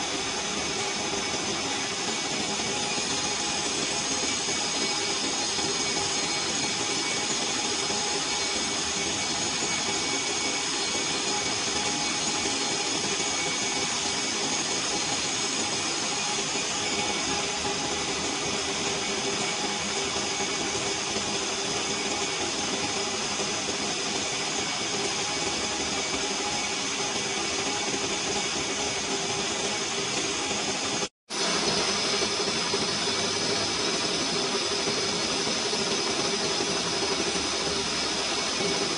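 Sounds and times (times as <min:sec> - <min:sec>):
lathe cutting metal pipe: 0:00.0 - 0:38.9
steady machine whine: 0:00.0 - 0:38.9.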